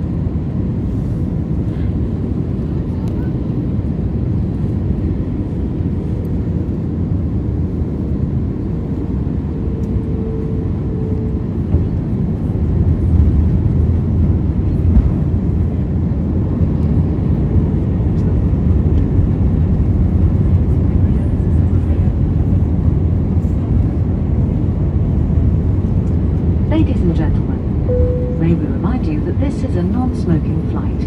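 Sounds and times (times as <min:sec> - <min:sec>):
airliner cabin rumble: 0:00.0 - 0:31.0.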